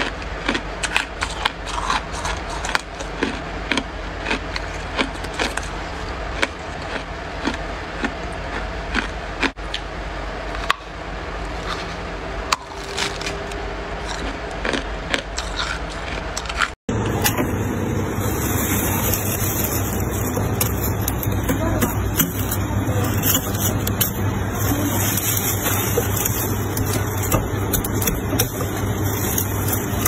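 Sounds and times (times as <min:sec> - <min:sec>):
frost crunching when chewed: 0:00.0 - 0:09.8, 0:11.4 - 0:16.8, 0:18.2 - 0:30.0
noisy background: 0:00.0 - 0:30.0.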